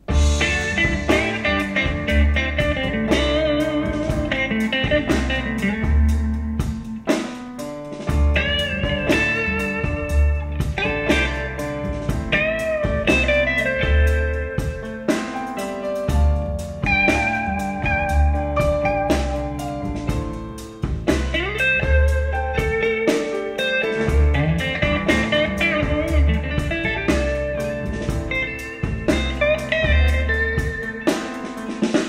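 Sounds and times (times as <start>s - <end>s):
blues guitar over bass line: 0.0s - 32.0s.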